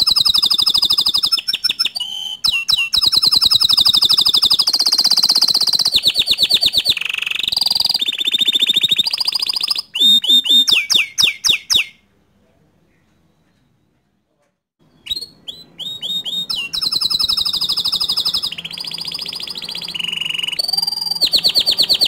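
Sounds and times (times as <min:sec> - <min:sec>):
canary singing: 0:00.0 - 0:12.1, 0:14.8 - 0:22.0.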